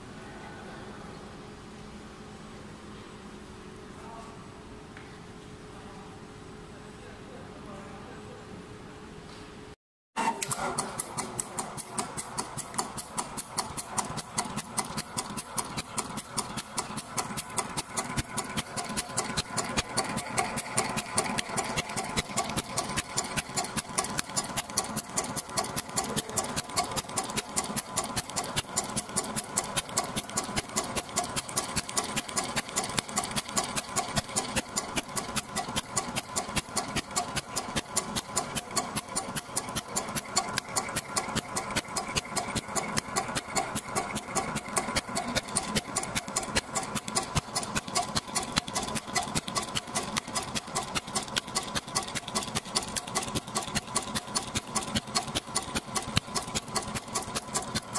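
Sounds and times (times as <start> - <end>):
sewing machine clattering: 10.2 - 57.9.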